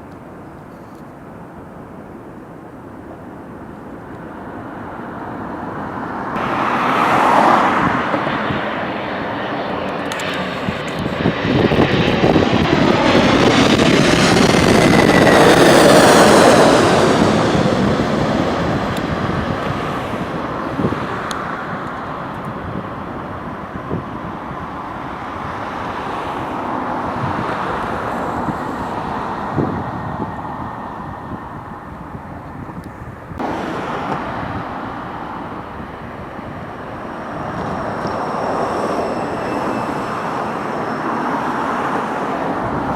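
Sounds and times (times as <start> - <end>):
jet engines passing with whine: 0.0 - 42.9.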